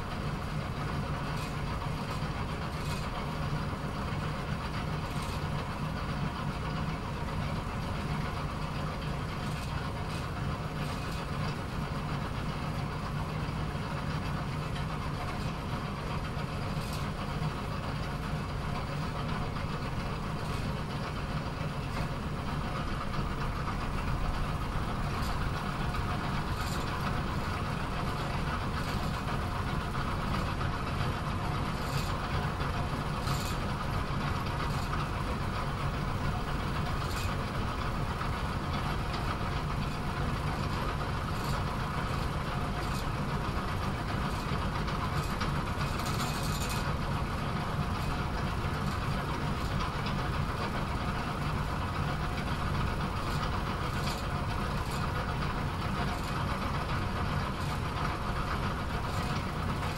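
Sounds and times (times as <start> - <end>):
pinsetter machine droning: 0.0 - 59.9.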